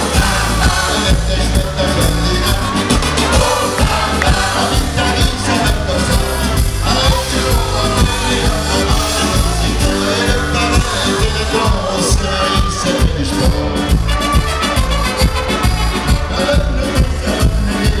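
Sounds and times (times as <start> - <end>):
man singing into a microphone: 0.0 - 14.0, 15.9 - 18.0
live band with brass: 0.0 - 18.0.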